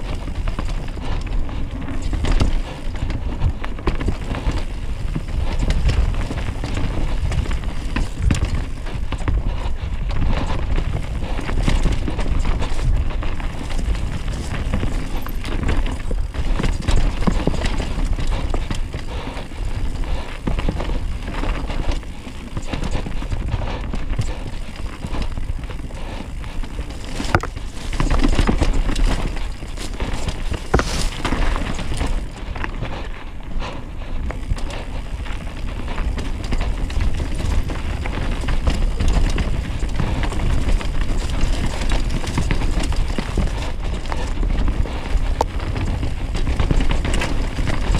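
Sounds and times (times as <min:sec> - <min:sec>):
tyres rumbling over dirt and rocks: 0:00.0 - 0:33.3, 0:34.0 - 0:47.9
bike clattering over bumps: 0:00.0 - 0:47.9
wind rumble on microphone: 0:00.0 - 0:47.9.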